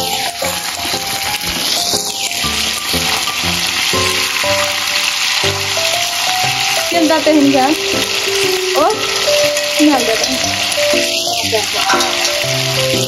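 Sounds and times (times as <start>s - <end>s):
background music: 0.0s - 13.0s
meat sizzling in hot oil: 0.0s - 13.0s.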